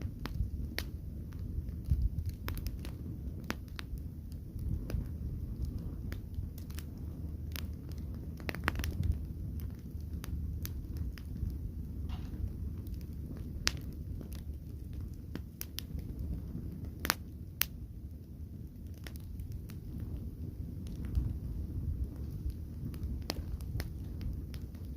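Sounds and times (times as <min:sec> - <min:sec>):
fire crackling and popping: 0:00.0 - 0:24.9
low rumble of burning: 0:00.0 - 0:24.9.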